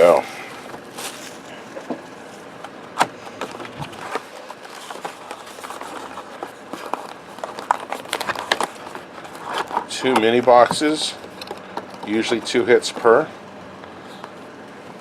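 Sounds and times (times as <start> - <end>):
cardboard packaging clicks and rustles: 0.0 - 13.2.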